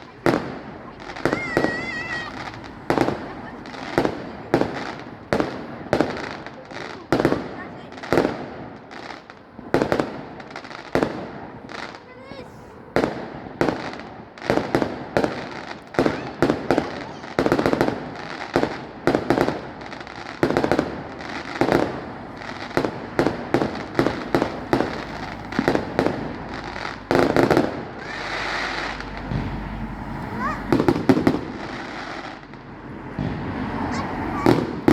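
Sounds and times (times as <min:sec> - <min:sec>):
fireworks bangs and cracks: 0:00.0 - 0:34.9.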